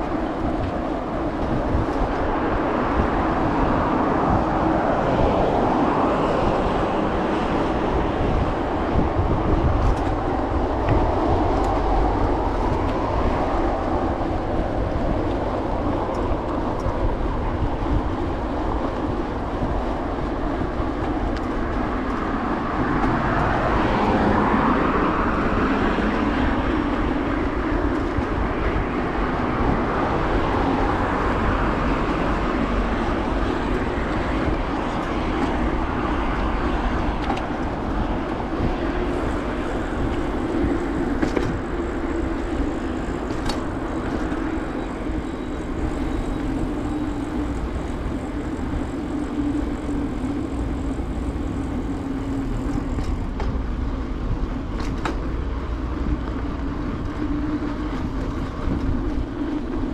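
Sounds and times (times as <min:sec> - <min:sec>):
tyres rolling on paving: 0:00.0 - 0:59.9
wind buffeting microphone: 0:00.0 - 0:59.9.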